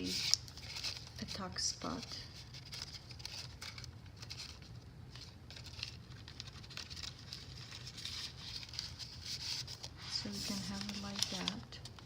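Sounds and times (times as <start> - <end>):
paper and card rustling: 0.0 - 12.0.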